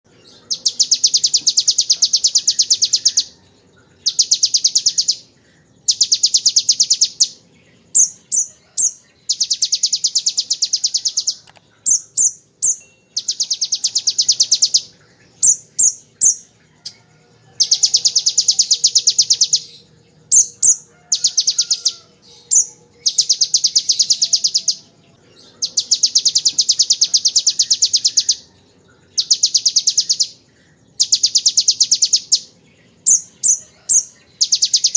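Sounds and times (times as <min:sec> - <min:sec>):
sharp bird chirps: 0:00.1 - 0:34.9.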